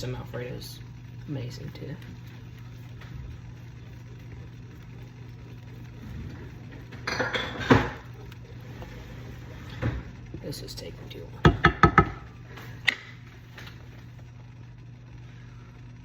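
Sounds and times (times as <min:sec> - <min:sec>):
utensil scraping a pot: 0:00.0 - 0:12.9
low kitchen hum: 0:00.0 - 0:16.0.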